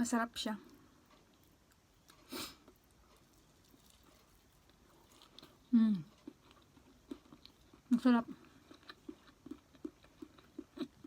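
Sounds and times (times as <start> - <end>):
chewing close to microphone: 1.4 - 11.0.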